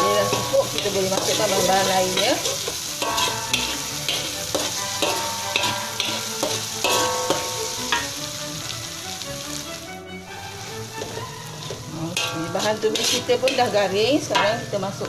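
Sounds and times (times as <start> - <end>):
metal spatula scraping wok: 0.0 - 9.6, 10.5 - 15.0
paste sizzling in hot oil: 0.0 - 15.0.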